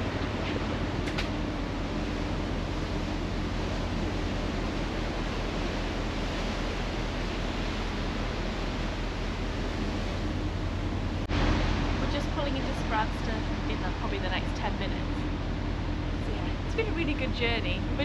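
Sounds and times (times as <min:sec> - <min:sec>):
low steady hum: 0:00.0 - 0:18.0
rushing wind and sea: 0:00.0 - 0:18.0.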